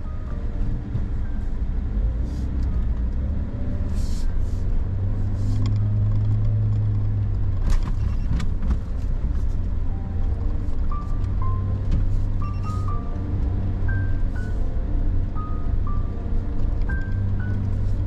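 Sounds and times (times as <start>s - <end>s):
car engine low drone: 0.0s - 18.0s.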